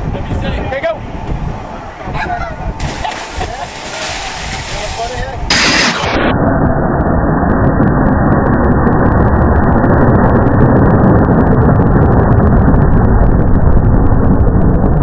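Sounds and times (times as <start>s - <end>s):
loud muffled rumbling: 0.0s - 15.0s.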